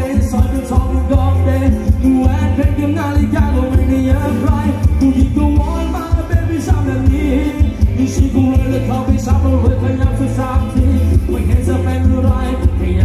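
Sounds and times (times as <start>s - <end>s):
live band playing dance music: 0.0s - 13.0s
person singing: 0.0s - 13.0s
pulsing bass beat: 0.0s - 13.0s.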